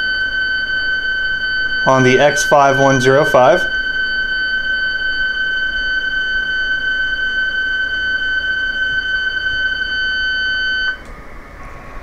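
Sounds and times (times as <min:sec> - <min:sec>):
steady digital signal tone: 0:01.3 - 0:10.9.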